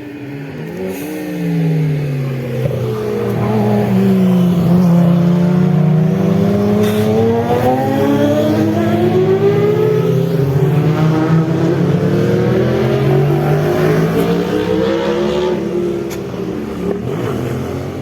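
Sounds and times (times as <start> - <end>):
motorcycle engines revving high: 0.0 - 18.0.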